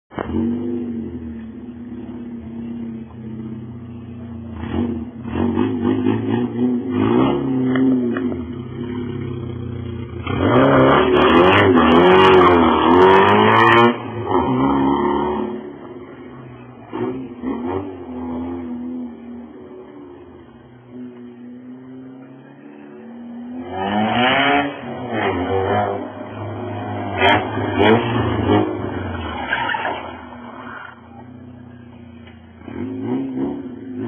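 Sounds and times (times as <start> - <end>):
car engine idling and revving: 0.1 - 34.0.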